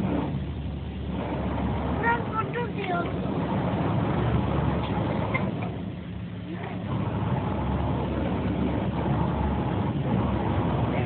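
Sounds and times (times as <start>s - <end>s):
automatic car wash from inside car: 0.0s - 11.0s.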